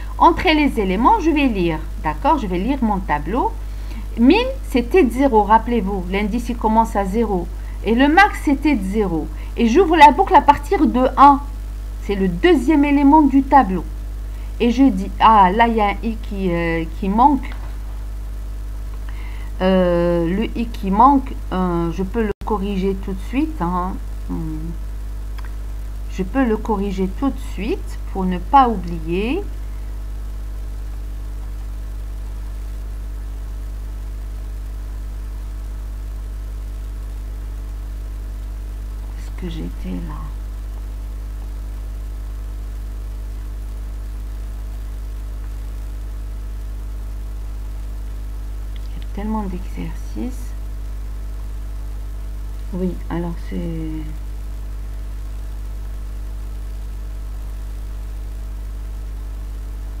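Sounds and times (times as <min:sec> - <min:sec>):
electrical mains hum: 0:00.0 - 1:00.0.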